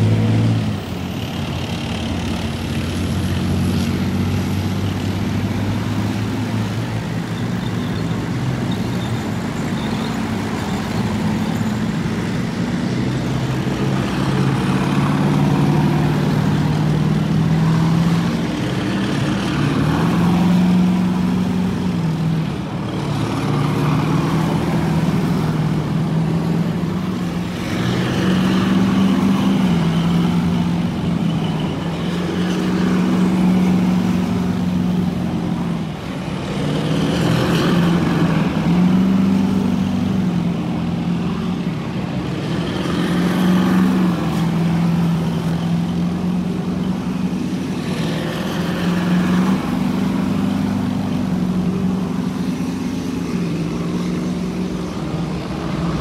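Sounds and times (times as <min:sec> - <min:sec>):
tracked vehicles driving past: 0:00.0 - 0:56.0.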